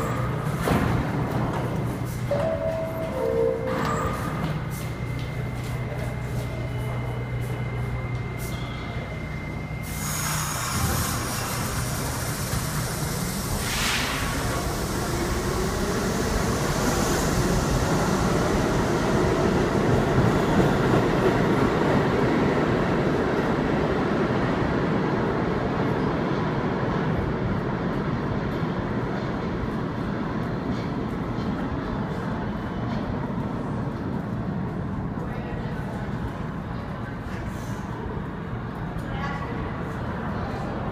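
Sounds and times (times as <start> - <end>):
subway train motor whine: 0.0 - 39.1.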